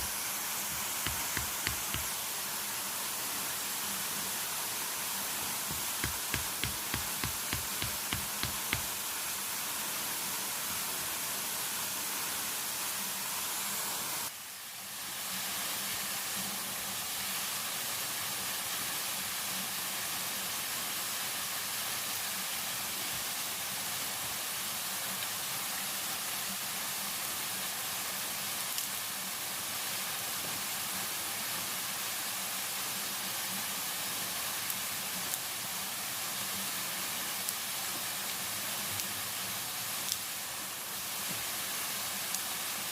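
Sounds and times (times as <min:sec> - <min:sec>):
rushing water hiss: 0:00.0 - 0:42.9.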